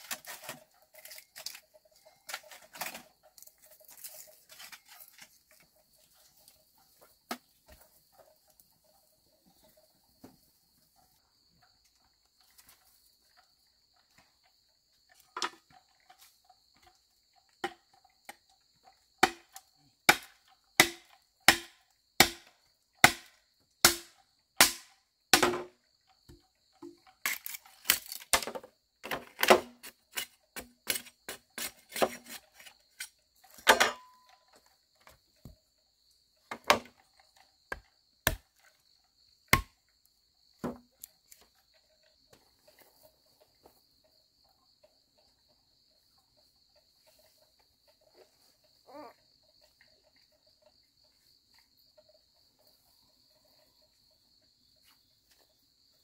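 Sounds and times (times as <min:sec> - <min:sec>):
high insect trill: 0:00.0 - 0:56.0.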